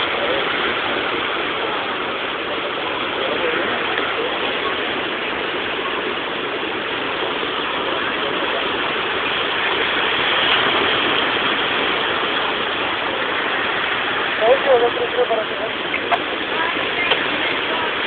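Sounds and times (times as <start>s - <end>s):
surf breaking on stony beach: 0.0s - 18.0s.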